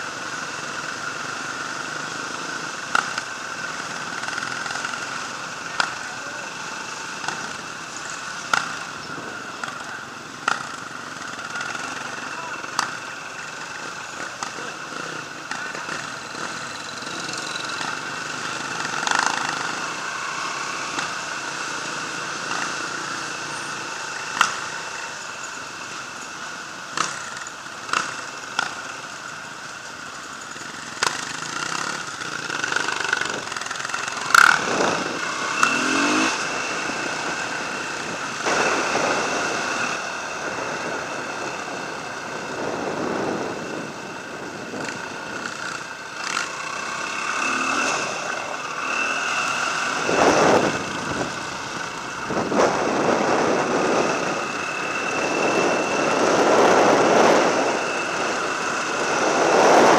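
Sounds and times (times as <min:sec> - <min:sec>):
dirt bike engine running: 0:00.0 - 0:59.9
wind and road noise: 0:00.0 - 0:59.9.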